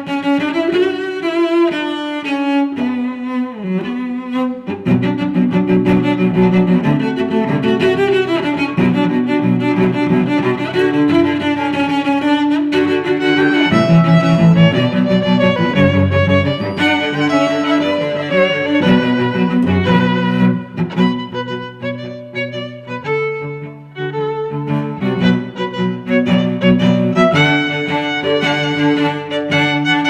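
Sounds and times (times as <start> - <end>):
cello sustained notes: 0.0 - 30.0
violin sustained notes: 2.6 - 30.0.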